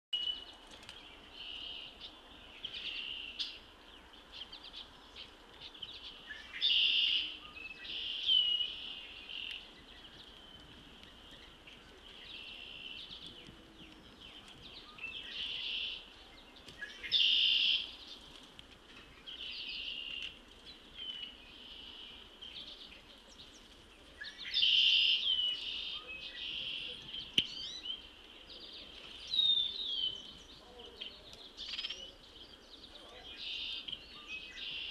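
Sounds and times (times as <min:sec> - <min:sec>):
songbirds singing: 0:00.1 - 0:34.9.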